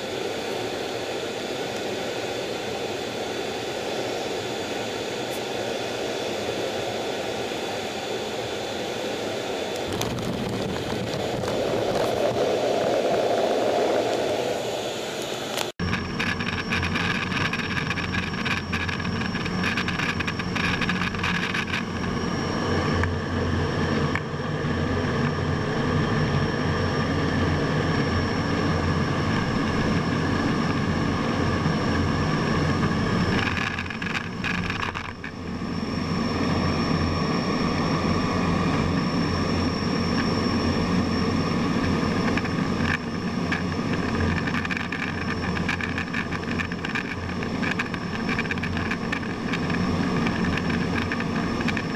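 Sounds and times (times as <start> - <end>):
high whine: 0.0 - 51.9
jet engine and airflow rush: 0.0 - 51.9.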